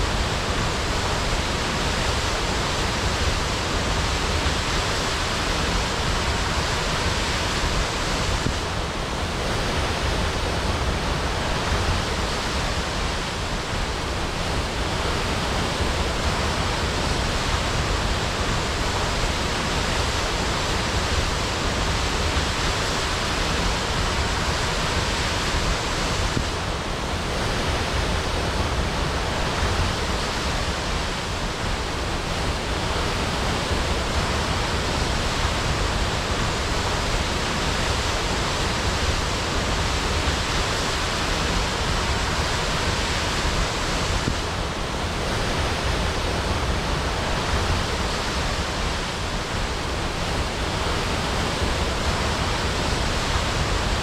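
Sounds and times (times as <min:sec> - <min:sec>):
waterfall crashing: 0:00.0 - 0:54.0.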